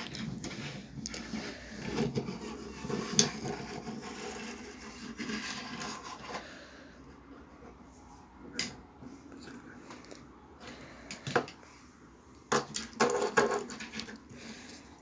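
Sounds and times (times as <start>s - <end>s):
toy cars on wooden tabletop: 0.0s - 9.2s, 9.8s - 15.0s.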